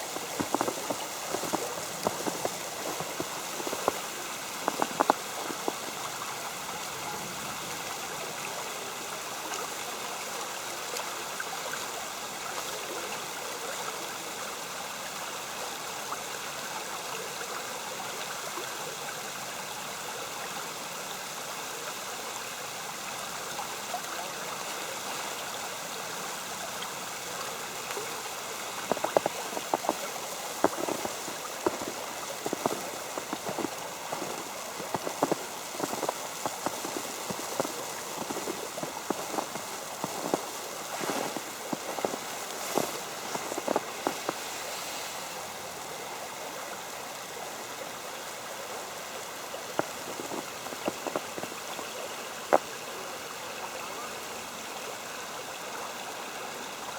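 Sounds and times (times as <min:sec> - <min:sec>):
creek water flowing: 0:00.0 - 0:56.9.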